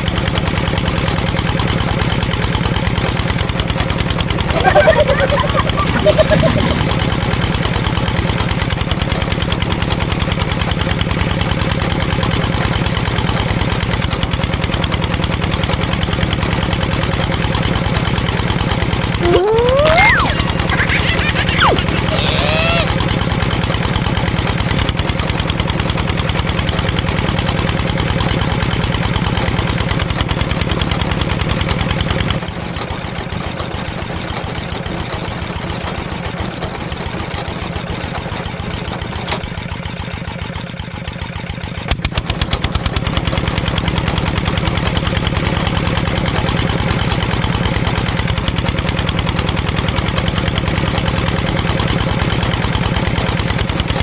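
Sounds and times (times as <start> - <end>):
small engine chugging: 0.0 - 54.0.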